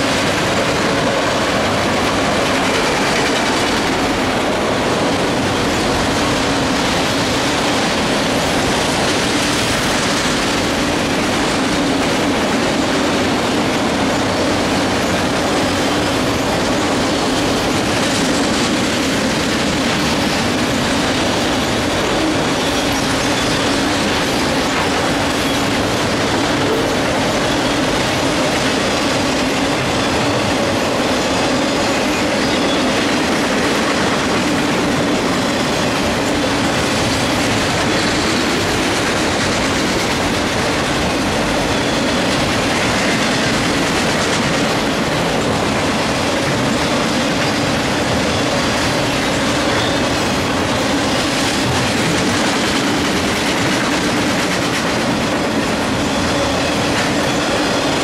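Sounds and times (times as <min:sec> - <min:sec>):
steel wheels rolling on rails: 0:00.0 - 0:58.0.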